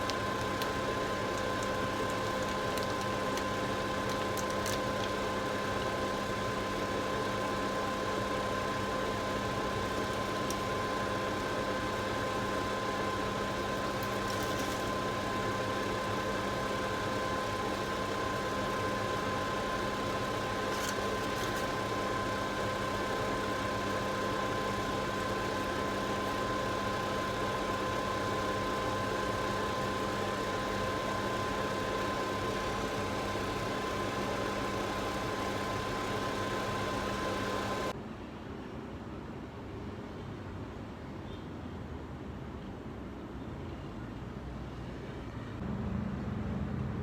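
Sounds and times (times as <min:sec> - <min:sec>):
steady machine hum: 0:00.0 - 0:38.0, 0:45.6 - 0:47.0.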